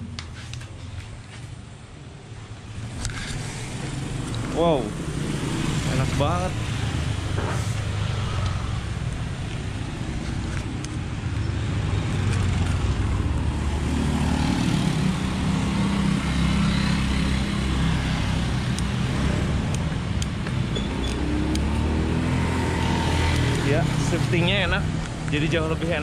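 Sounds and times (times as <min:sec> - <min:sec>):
traffic rumble: 0:00.0 - 0:26.0
vehicle engine hum: 0:00.0 - 0:26.0.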